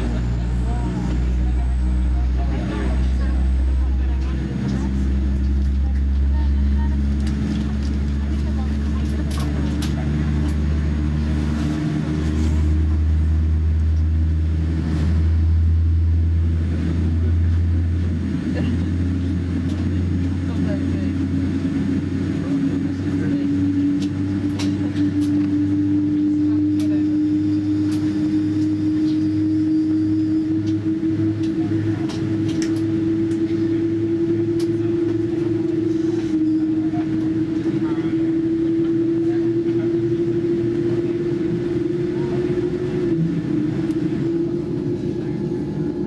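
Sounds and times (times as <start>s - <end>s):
jet engine drone in cabin: 0.0s - 46.0s
low pulsing throb: 0.0s - 46.0s.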